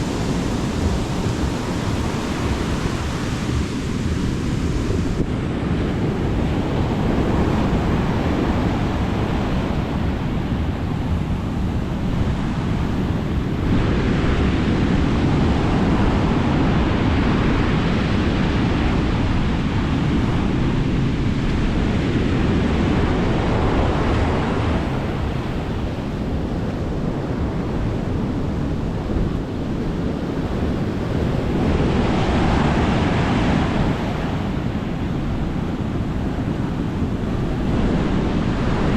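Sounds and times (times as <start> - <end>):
sea waves breaking on beach: 0.0 - 38.9
wind buffeting microphone: 0.0 - 38.9.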